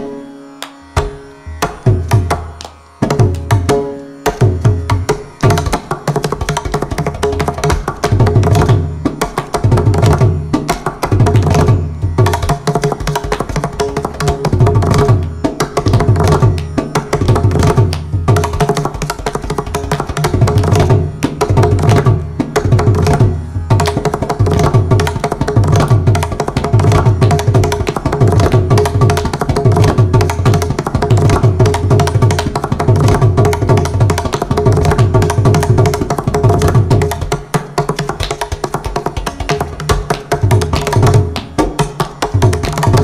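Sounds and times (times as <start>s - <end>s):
tanpura drone: 0.0s - 43.0s
hand drum solo: 4.4s - 43.0s.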